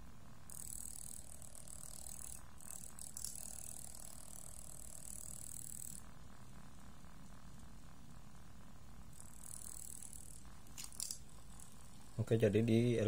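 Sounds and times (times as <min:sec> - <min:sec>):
small motor whirring: 0:00.3 - 0:13.0.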